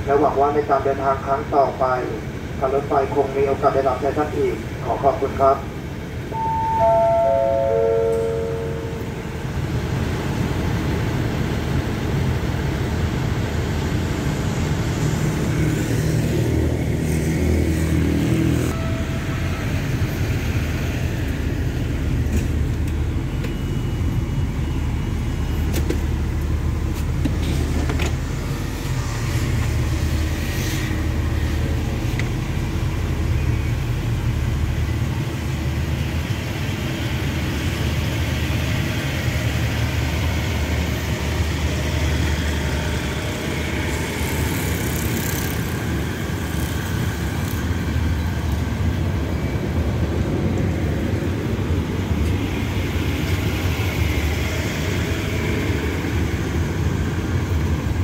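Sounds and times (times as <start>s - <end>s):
diesel locomotive rumbling: 0.0s - 58.0s.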